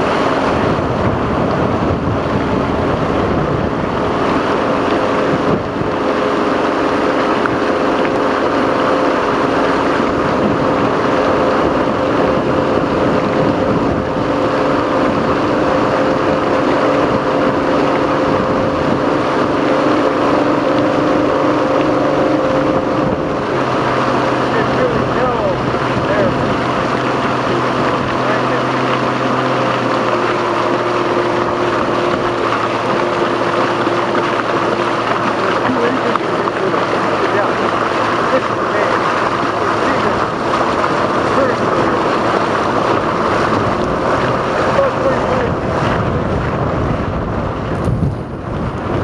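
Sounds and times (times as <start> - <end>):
motorboat engine drone: 0.0 - 49.0
rushing wind and water: 0.0 - 49.0.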